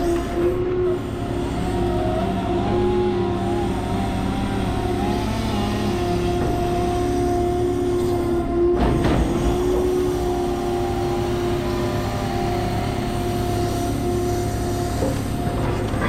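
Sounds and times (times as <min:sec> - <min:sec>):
crane engine rumble with whine: 0:00.0 - 0:16.0.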